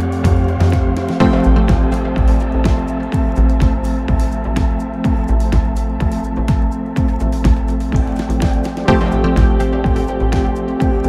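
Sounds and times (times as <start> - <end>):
held synth chords: 0.0 - 11.0
kick drum beat: 0.0 - 11.0.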